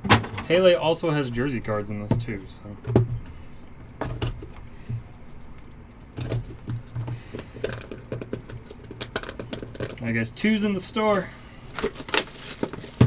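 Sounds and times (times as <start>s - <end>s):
light clicks taps and rustles: 1.3s - 13.0s.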